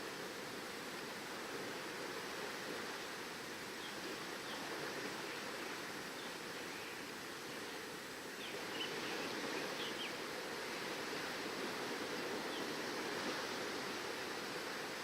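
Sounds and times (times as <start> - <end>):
sea waves on shore: 0.0 - 15.0.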